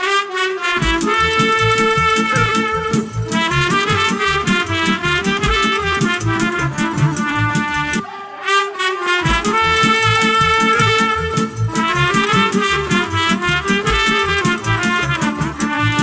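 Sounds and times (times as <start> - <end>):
trumpet melody: 0.0 - 16.0
drum beat: 0.8 - 8.0, 9.3 - 16.0
band playing folk dance music: 0.8 - 16.0.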